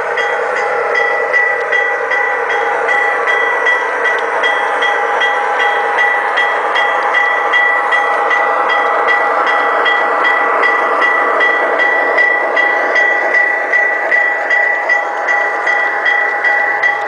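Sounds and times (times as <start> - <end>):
model locomotive whine: 0.0 - 17.0.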